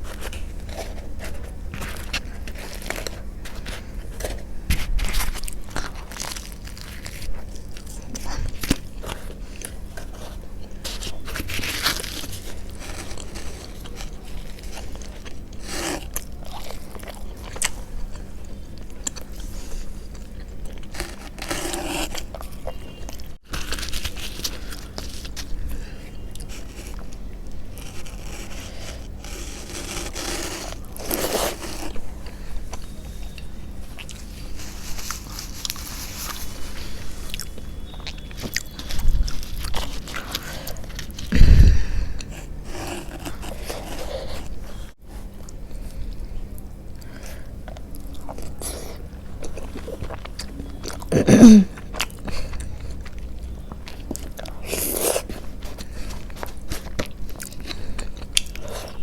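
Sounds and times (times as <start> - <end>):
biting and chewing: 0.0 - 59.0.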